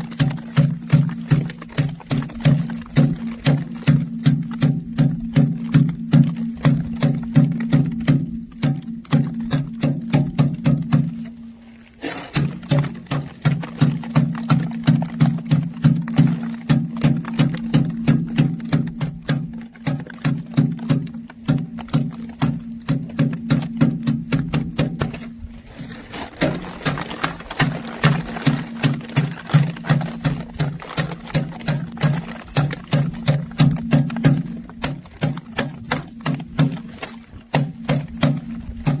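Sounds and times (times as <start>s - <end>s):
rhythmic threshing knocks: 0.0s - 39.0s.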